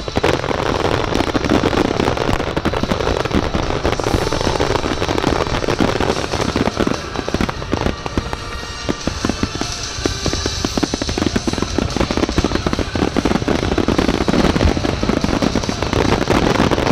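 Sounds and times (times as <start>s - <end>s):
fireworks crackling: 0.0s - 16.9s.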